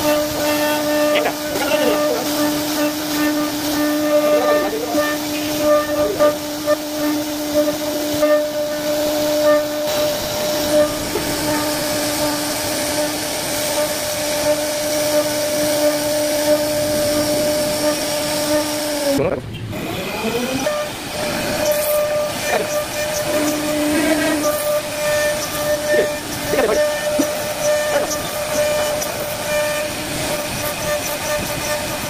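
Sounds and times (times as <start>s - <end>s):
wood cutting hiss with ticks: 0.0s - 19.0s, 20.6s - 32.0s
router spindle whine: 0.0s - 32.0s.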